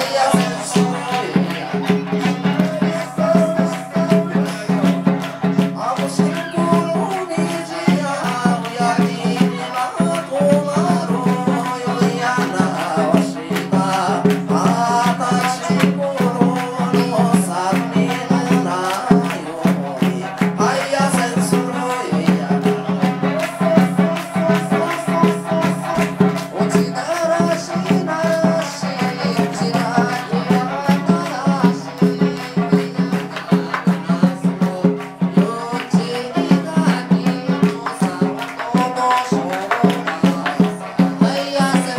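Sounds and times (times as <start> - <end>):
crowd handclaps: 0.0 - 41.9
percussion beat: 0.0 - 41.9
person singing: 0.0 - 41.9.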